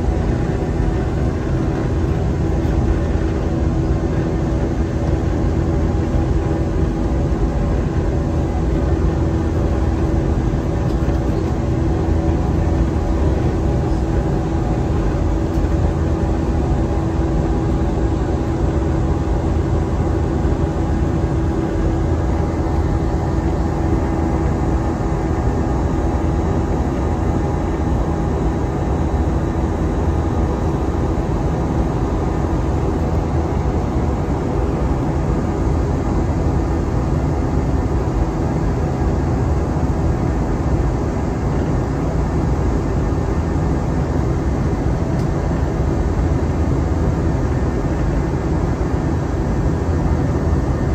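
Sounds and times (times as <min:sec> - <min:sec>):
constant hum: 0:00.0 - 0:50.9
jet engine drone: 0:00.0 - 0:50.9.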